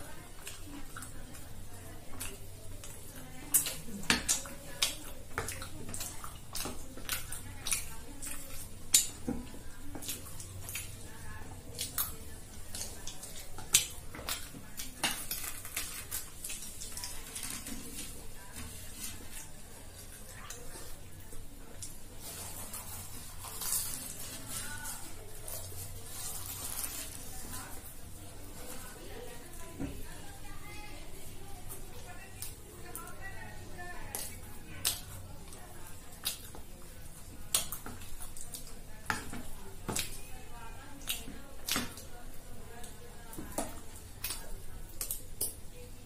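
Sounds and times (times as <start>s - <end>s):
bread being torn and chewed: 0.1s - 30.2s, 31.1s - 46.0s.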